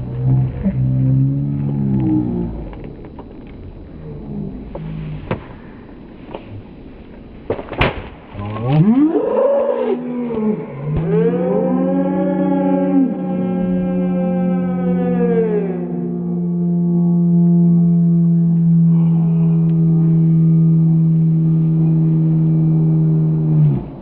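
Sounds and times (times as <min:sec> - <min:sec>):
sliding wavering pitched tones: 0:00.0 - 0:07.5, 0:08.4 - 0:24.0.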